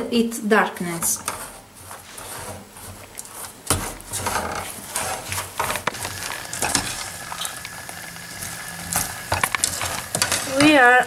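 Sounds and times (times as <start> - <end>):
spoon scraping through mixture: 0.8 - 11.0.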